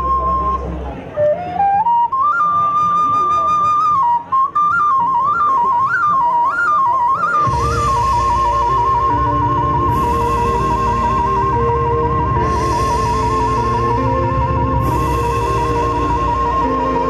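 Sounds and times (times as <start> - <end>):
flute-like solo melody: 0.0 - 17.0
low backing accompaniment: 0.0 - 17.0.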